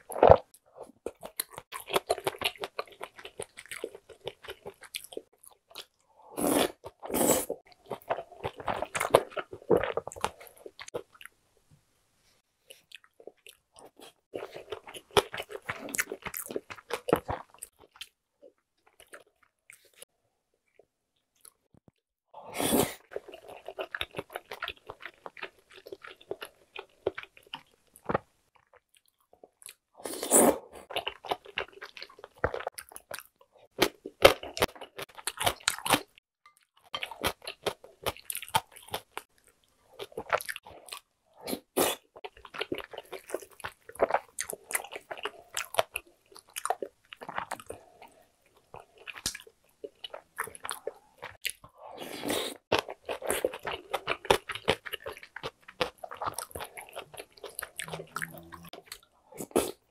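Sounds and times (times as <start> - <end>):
person chewing: 0.0 - 11.3, 12.7 - 20.0, 22.5 - 59.9.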